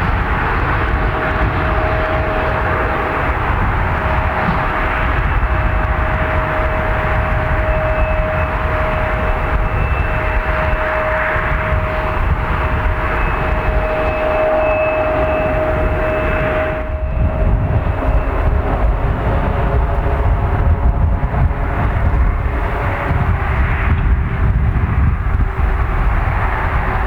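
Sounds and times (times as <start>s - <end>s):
jet engine roar: 0.0s - 27.0s
jet engine whine: 0.0s - 27.0s.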